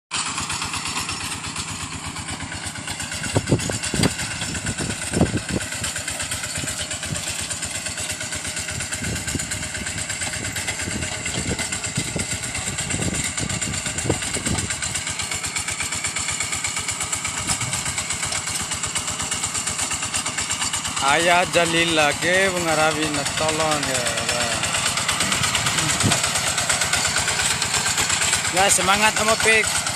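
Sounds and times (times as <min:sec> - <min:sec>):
tractor engine running: 0:00.1 - 0:29.9.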